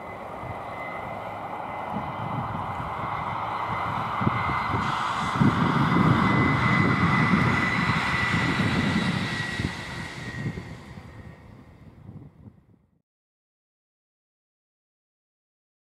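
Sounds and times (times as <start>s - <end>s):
diesel train passing: 0.0s - 12.8s.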